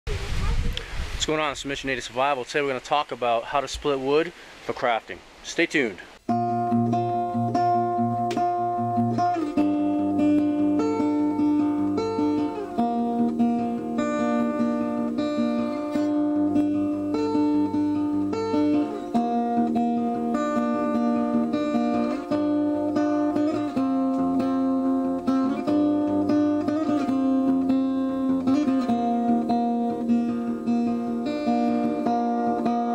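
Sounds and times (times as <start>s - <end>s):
acoustic guitar strumming: 6.2s - 32.9s.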